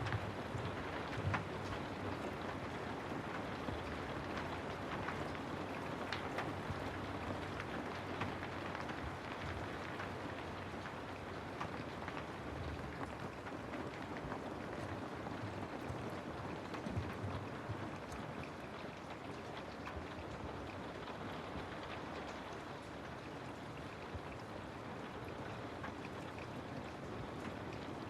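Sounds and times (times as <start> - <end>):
rain pattering: 0.0 - 28.0.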